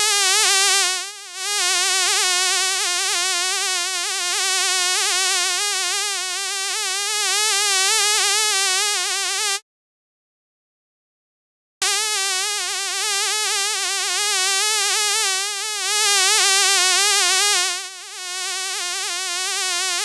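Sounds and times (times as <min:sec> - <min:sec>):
fly buzzing: 0:00.0 - 0:09.6, 0:11.8 - 0:20.0.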